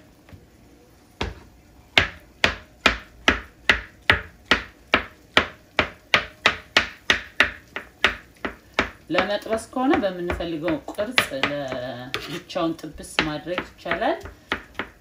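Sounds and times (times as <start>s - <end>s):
knife chopping on plastic board: 2.0s - 12.4s, 13.0s - 15.0s.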